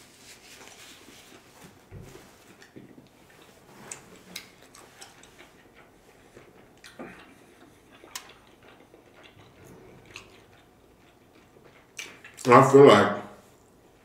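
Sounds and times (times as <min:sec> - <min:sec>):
soft closed-mouth chewing: 0:00.7 - 0:12.5.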